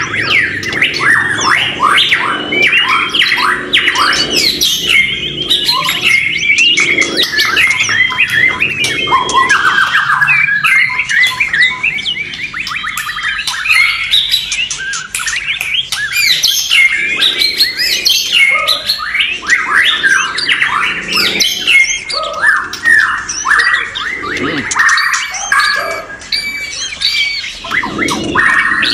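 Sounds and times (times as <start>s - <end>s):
birds singing whistled phrases: 0.0s - 28.9s.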